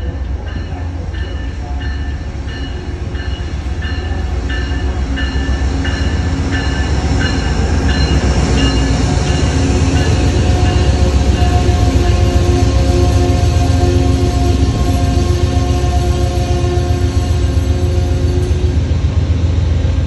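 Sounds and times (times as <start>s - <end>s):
locomotive bell ringing: 0.0s - 18.8s.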